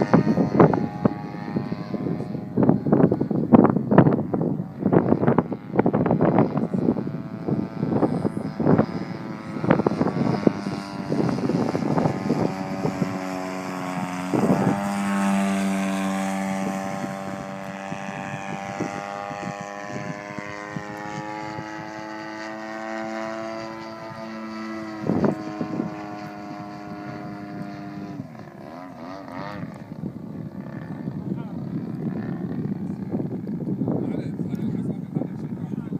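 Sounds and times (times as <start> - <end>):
model airplane motor droning: 0.0 - 35.9.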